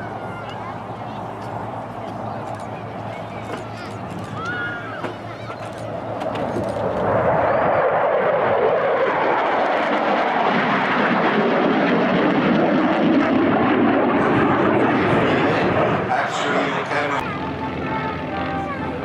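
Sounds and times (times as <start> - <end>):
jet fighter flying by: 0.0 - 19.0.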